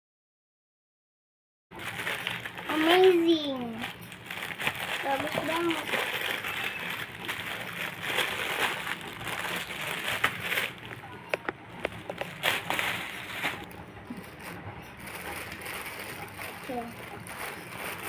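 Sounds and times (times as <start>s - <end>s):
plastic packaging crinkling: 1.7s - 18.0s.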